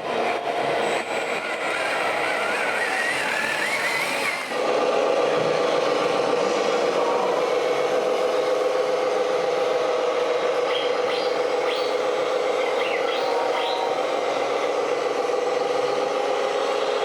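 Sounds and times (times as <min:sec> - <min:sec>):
model vehicle hum: 0:00.0 - 0:17.0
model vehicle whine: 0:00.0 - 0:17.0.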